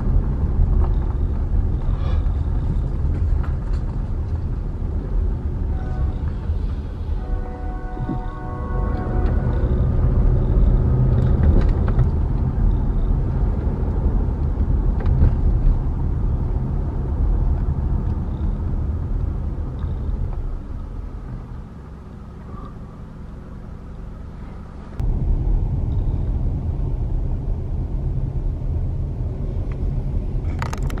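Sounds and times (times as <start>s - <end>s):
car engine rumble: 0.0s - 31.0s
tyre road noise: 0.0s - 31.0s.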